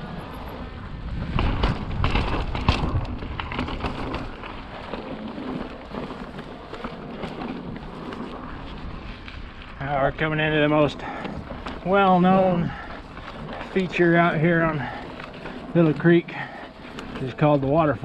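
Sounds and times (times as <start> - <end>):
bike rattling and clicking: 0.0 - 18.0
bike tyre noise on rock: 0.0 - 18.0
wind buffeting microphone: 0.0 - 18.0.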